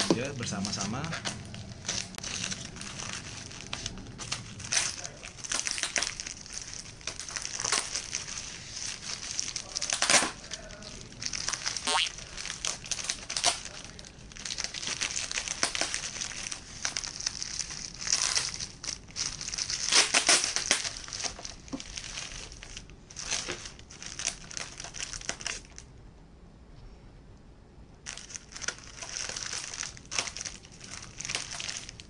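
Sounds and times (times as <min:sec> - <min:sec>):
plastic wrapping crinkling: 0:00.0 - 0:25.9, 0:28.0 - 0:32.0.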